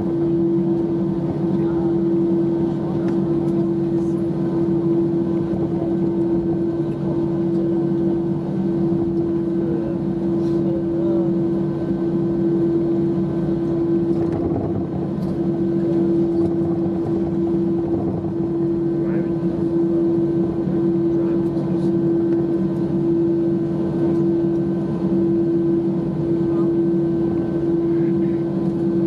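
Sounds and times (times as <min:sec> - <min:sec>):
aircraft cabin drone: 0:00.0 - 0:29.0.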